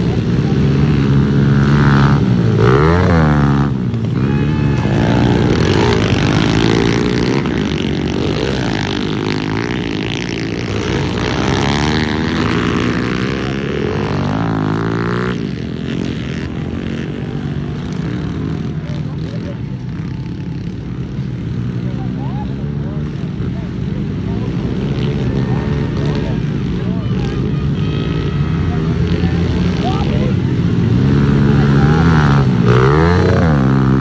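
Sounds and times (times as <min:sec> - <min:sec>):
pit bike engines revving: 0:00.0 - 0:34.0.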